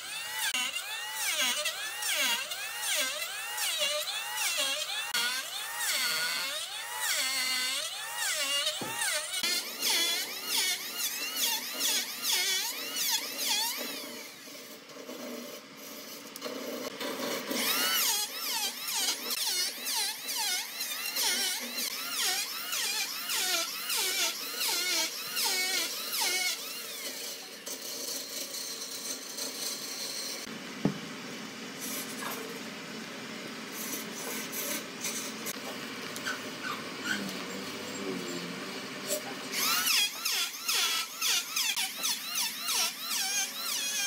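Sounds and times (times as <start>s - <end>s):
electric planer whining: 0.0s - 31.0s, 31.8s - 44.0s.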